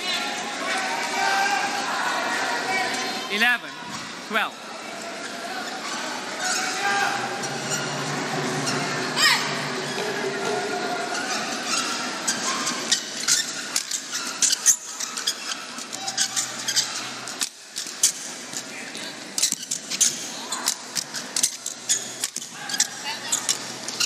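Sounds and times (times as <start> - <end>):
murmur of voices: 0.0 - 24.0
court shoes squeaking: 3.8 - 24.0.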